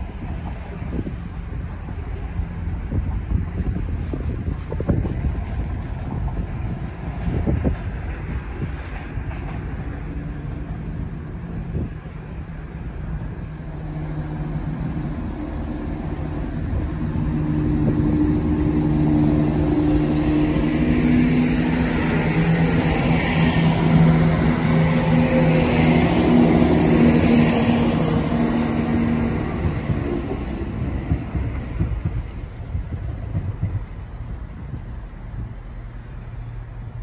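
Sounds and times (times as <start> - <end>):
diesel train engine drone: 0.0 - 37.0
wheels hissing on rail: 0.0 - 37.0.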